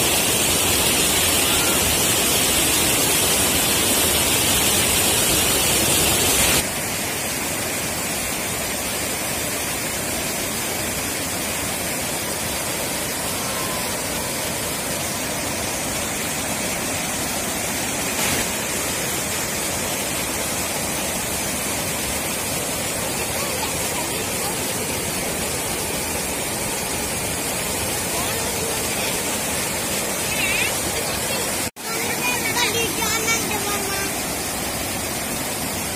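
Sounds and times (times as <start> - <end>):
water rushing over rapids: 0.0 - 35.9.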